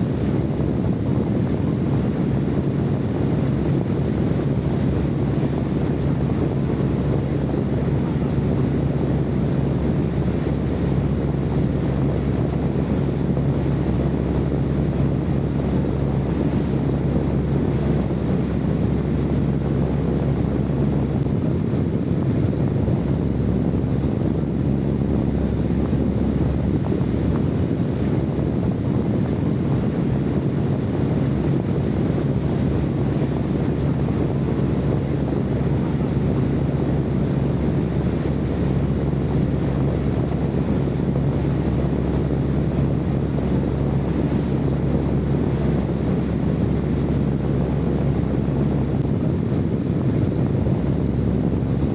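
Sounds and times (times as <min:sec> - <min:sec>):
constant hum: 0:00.0 - 0:51.9
low rumbling noise: 0:00.0 - 0:51.9.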